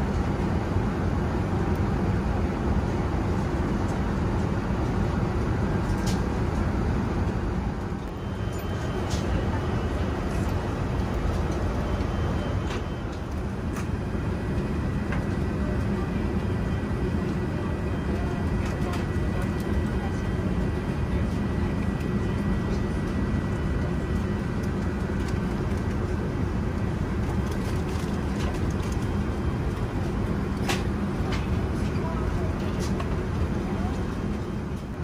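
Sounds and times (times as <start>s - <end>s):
airliner cabin airflow and engine rush: 0.0s - 35.0s.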